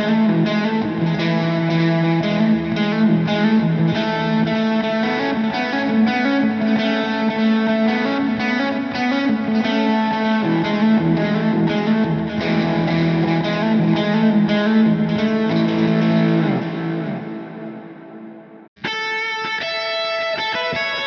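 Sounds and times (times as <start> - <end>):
overdriven electric guitar: 0.0 - 21.0.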